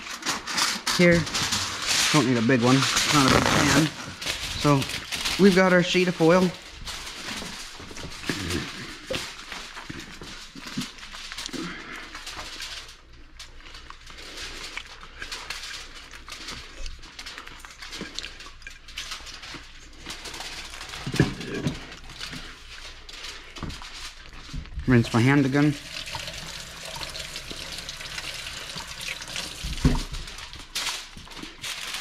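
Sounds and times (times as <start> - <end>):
aluminium foil crinkling: 0.0 - 32.0.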